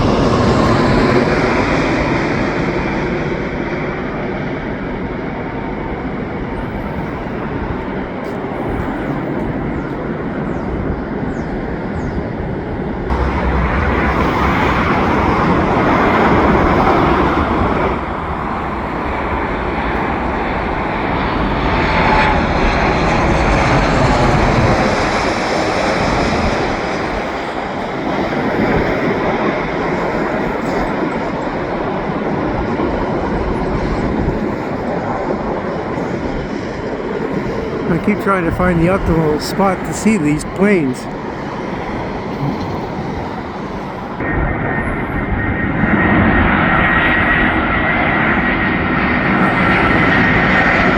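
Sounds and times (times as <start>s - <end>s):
airliner jet engines passing over: 0.0s - 50.9s.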